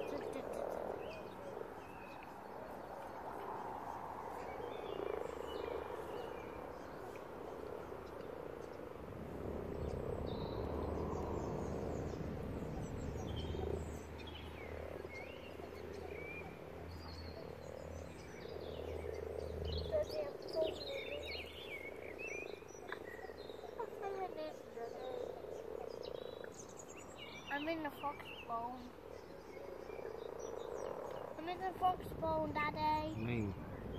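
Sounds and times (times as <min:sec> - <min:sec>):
chorus of frogs croaking: 0:00.0 - 0:33.9.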